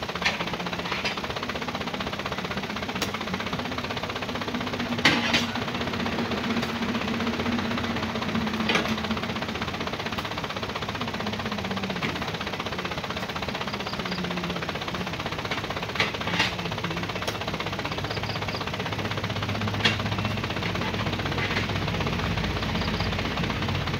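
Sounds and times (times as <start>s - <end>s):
truck engine idling: 0.0s - 23.9s.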